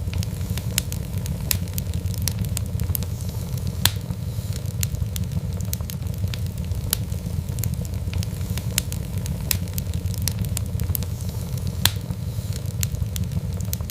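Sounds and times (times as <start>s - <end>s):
fire crackling and popping: 0.0s - 13.9s.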